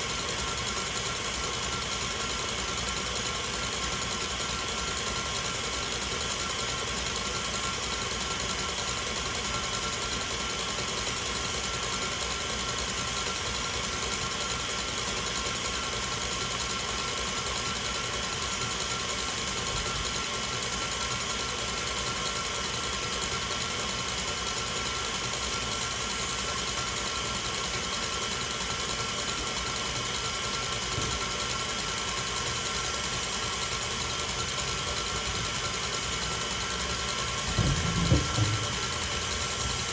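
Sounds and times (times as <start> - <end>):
electric mixer motor whine: 0.0 - 39.9.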